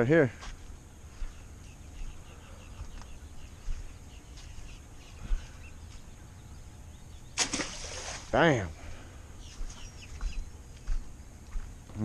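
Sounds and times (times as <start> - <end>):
bird chirping: 0.0 - 12.0
outdoor background noise: 0.0 - 12.0.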